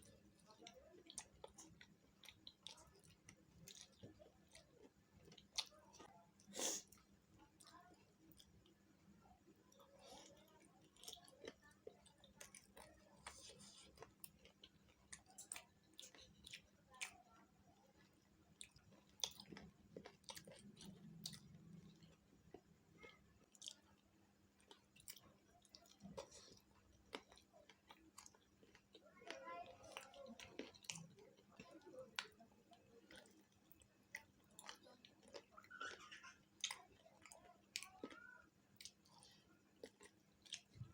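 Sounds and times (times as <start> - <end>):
wet chewing smacks and clicks: 0.0 - 8.8, 9.6 - 38.2, 38.8 - 40.9
faint steady hum: 0.0 - 40.9.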